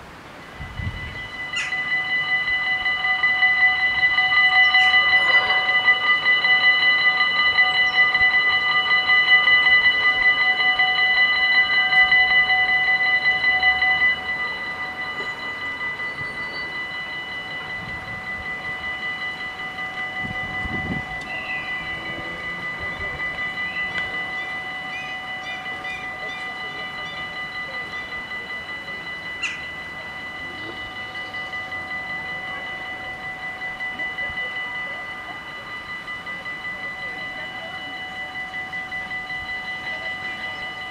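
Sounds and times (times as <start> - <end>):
level crossing bells ringing: 0.0 - 40.9.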